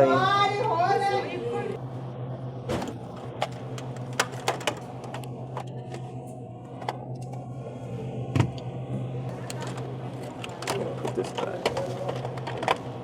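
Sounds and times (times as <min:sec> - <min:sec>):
low hum: 0:01.6 - 0:13.0.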